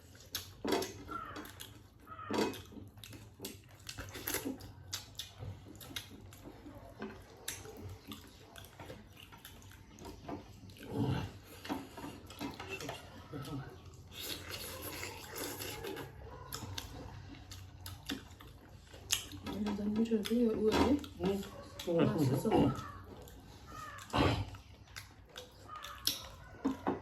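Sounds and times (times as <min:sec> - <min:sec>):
chewing and lip-smacking: 0:00.0 - 0:27.0.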